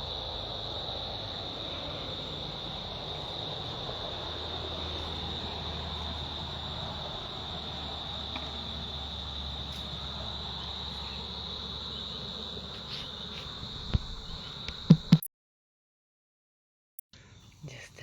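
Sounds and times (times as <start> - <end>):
insects trilling: 0.0 - 15.3.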